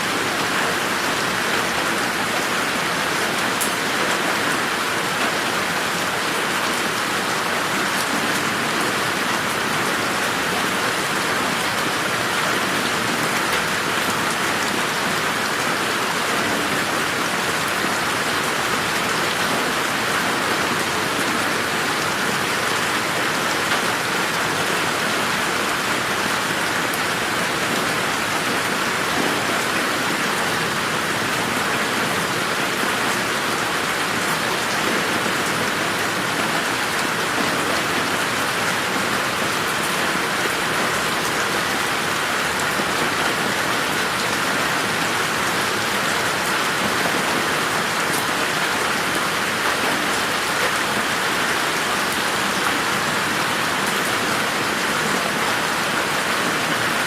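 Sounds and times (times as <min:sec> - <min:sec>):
rain pattering in a garden: 0:00.0 - 0:57.0.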